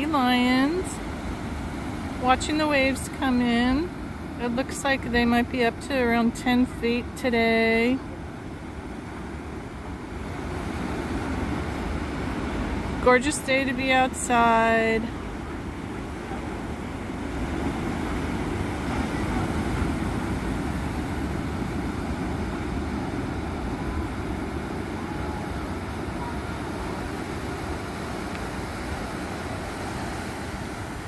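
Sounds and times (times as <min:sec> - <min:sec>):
waves breaking: 0:00.0 - 0:31.0.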